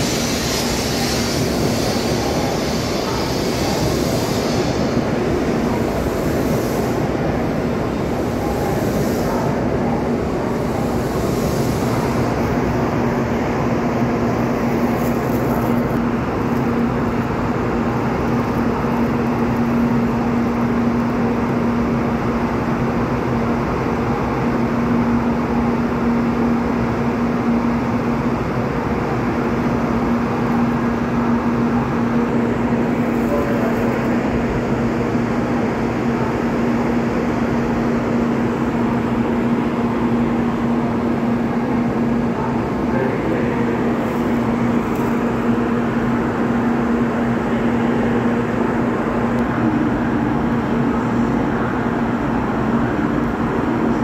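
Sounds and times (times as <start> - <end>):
train rumble and hiss: 0.0 - 54.0.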